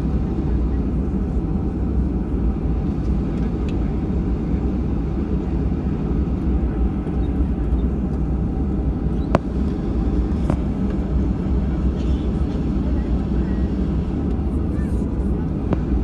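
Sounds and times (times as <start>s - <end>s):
airliner cabin rumble and hum: 0.0s - 16.0s.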